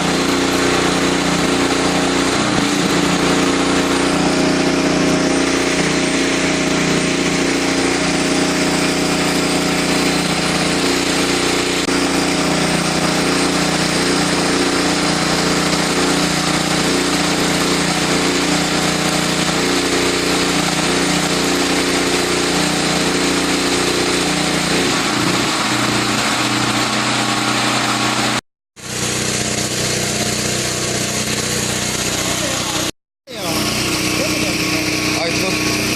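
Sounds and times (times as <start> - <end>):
welding generator engine running: 0.0 - 35.9.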